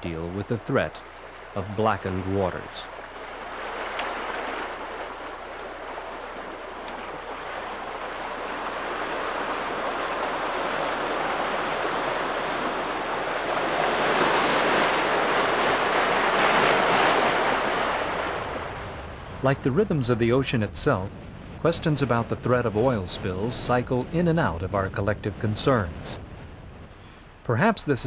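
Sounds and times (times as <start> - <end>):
seawater surging around rocks: 0.0 - 26.9.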